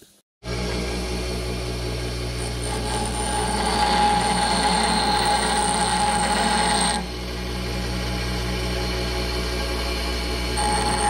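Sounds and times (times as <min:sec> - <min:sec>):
grinding whine: 0:00.4 - 0:11.0
bench grinder motor hum: 0:00.5 - 0:11.0.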